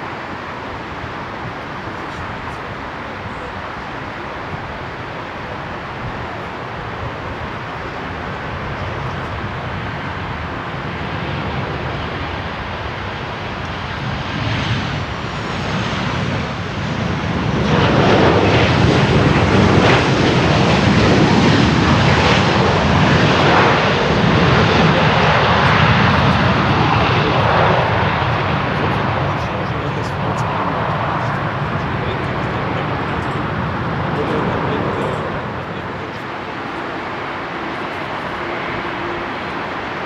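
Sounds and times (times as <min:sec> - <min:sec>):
jet engines roaring: 0:00.0 - 0:40.0.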